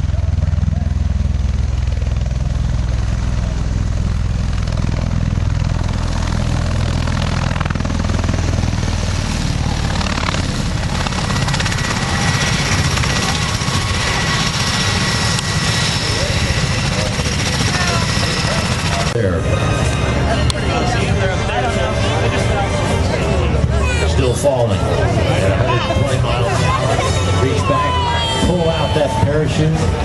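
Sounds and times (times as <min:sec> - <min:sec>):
aircraft engine drone: 0:00.0 - 0:30.0.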